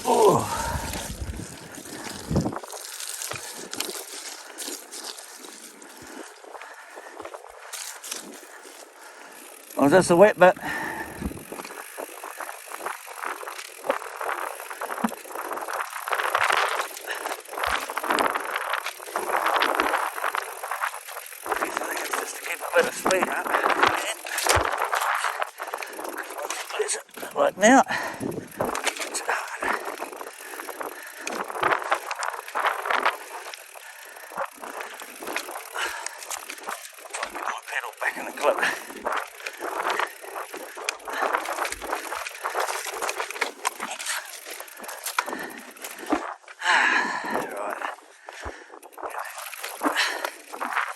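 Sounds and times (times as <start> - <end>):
bike rattling clicks: 0.0 - 50.9
bike tyres rolling through mud: 0.0 - 50.9.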